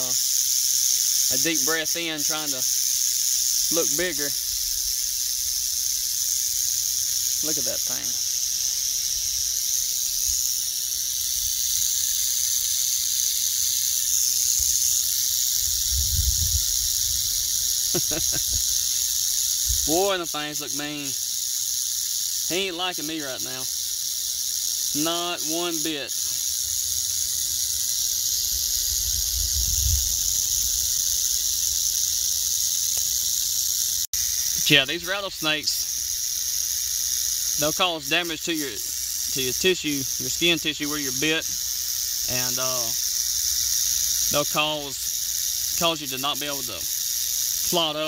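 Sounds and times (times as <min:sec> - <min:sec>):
rattlesnake rattling: 0:00.0 - 0:48.0.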